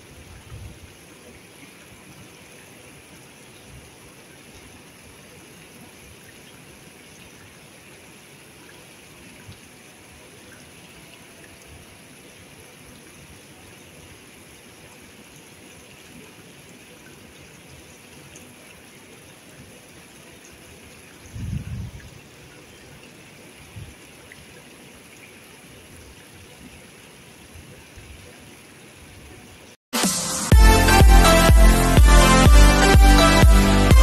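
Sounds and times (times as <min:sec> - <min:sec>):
fountain jets splashing into pool: 0:00.0 - 0:21.3, 0:22.0 - 0:29.8.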